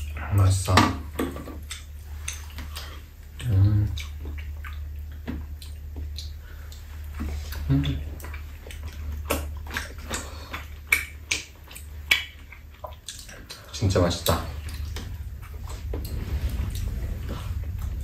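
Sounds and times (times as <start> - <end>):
chewing and smacking: 0.0 - 18.0
steady low hum: 0.0 - 18.0.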